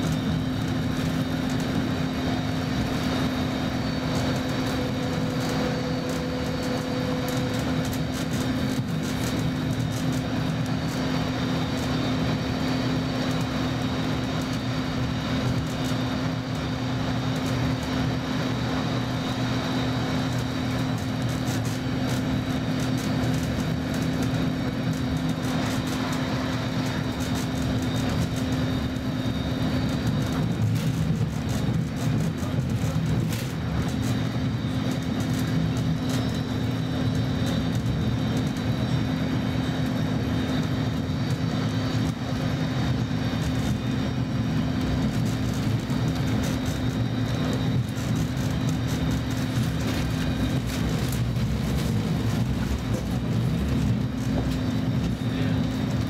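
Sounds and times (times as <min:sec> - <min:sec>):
constant hum: 0:00.0 - 0:56.0
train running gear drone: 0:00.0 - 0:56.0.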